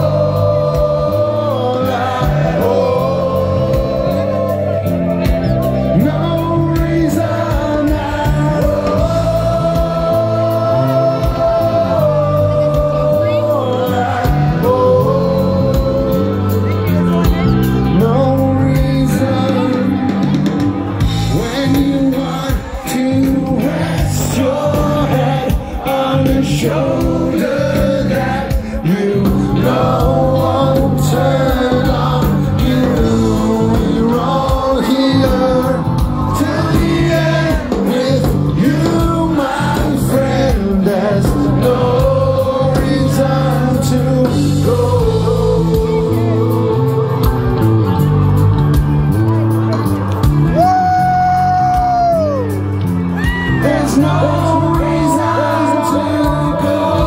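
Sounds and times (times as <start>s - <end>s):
man singing: 0.0s - 48.2s, 50.5s - 57.0s
live rock band playing: 0.0s - 57.0s.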